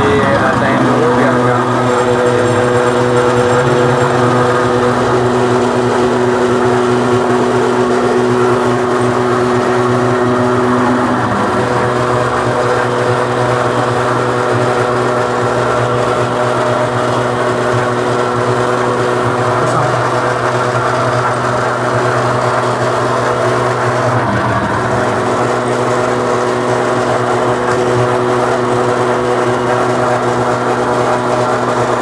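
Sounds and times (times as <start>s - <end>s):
noodle machine motor humming: 0.0s - 32.0s.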